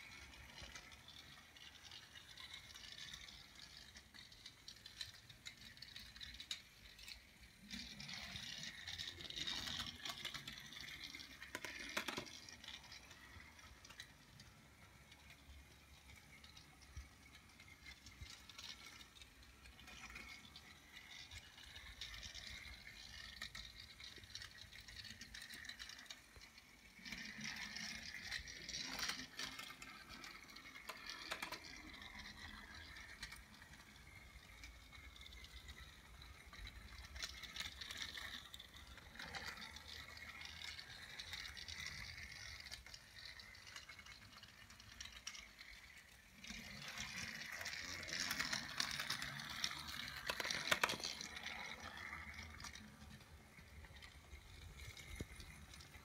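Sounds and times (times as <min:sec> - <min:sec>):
toy train motor whirring: 0:00.0 - 0:56.0
toy wheels rattling on track: 0:00.0 - 0:56.0.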